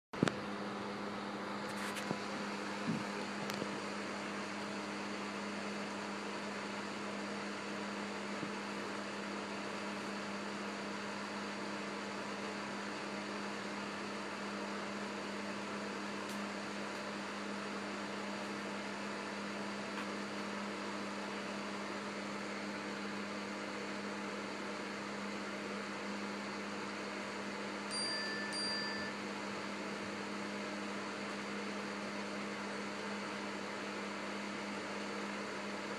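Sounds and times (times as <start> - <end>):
low electrical hum: 0.2 - 35.9.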